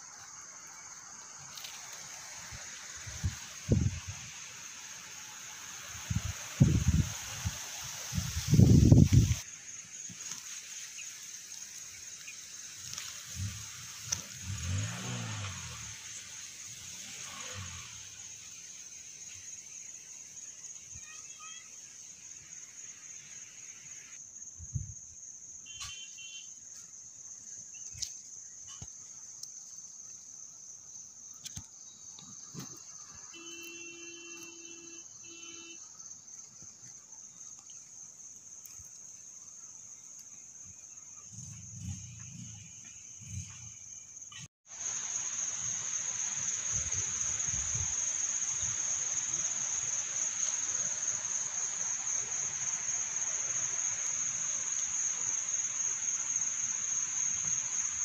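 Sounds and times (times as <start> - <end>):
crickets chirring: 0.0 - 58.0
steady hiss: 0.0 - 58.0.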